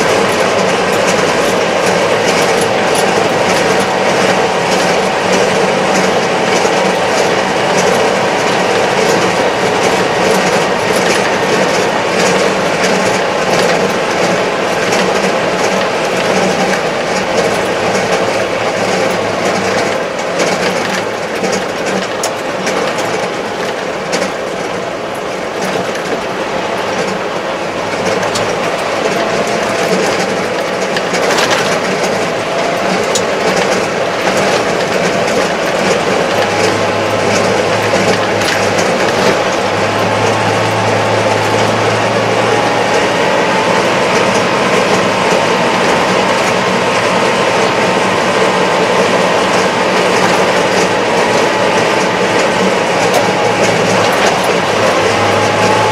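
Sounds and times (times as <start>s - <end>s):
light continual rattle: 0.0s - 55.9s
tractor diesel engine droning: 0.0s - 55.9s.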